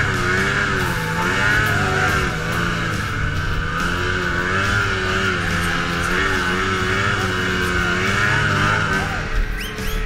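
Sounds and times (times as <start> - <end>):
snowmobile engine running: 0.0 - 10.0.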